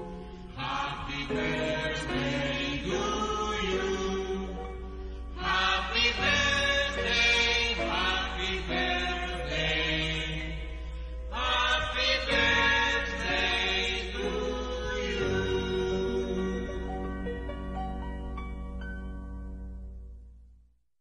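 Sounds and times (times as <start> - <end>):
slow chant-like music: 0.0 - 17.5.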